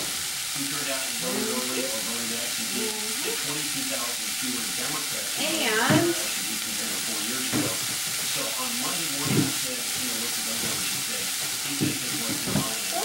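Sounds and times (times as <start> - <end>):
tofu sizzling in a skillet: 0.0 - 13.0
oil popping: 1.9 - 13.0.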